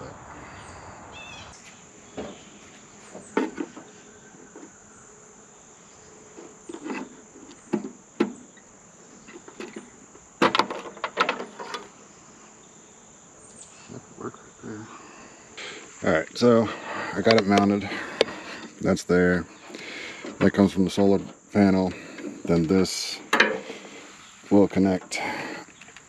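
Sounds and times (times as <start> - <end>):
high hum of insects: 0.0 - 26.0.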